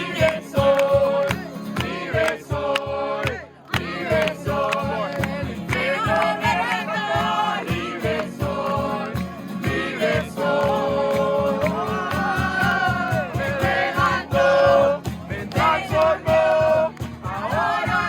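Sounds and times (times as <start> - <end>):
group singing a worship song: 0.0 - 18.0.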